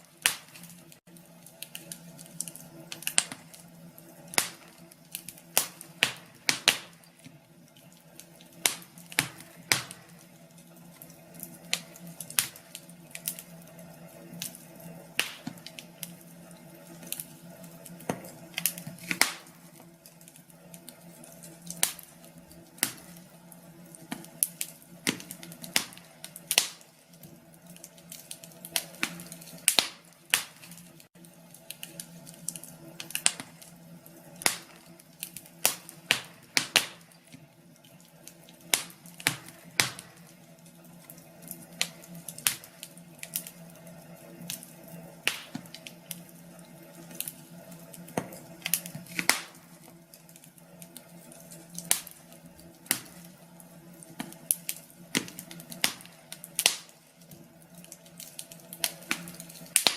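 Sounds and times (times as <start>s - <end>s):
steady low hum: 0.0s - 59.9s
wood fire crackling: 0.0s - 59.9s.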